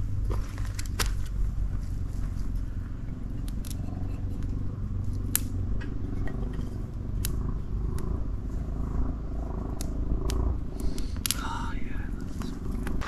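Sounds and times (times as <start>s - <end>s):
kindling snapping and crackling: 0.0s - 13.0s
steady low rumble: 0.0s - 13.0s.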